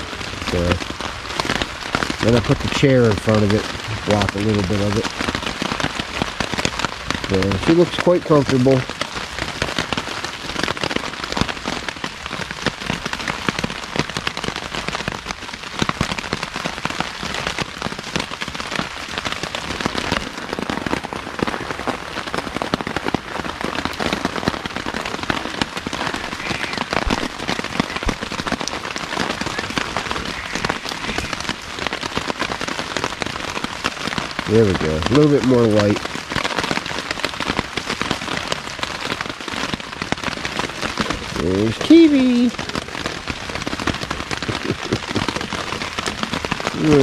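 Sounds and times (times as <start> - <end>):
rain falling on a tarp: 0.0 - 47.0.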